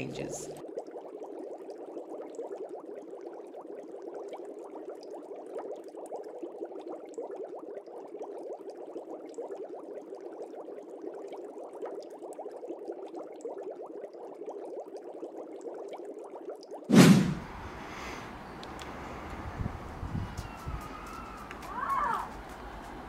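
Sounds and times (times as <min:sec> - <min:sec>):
aquarium filter bubbling: 0:00.0 - 0:20.5.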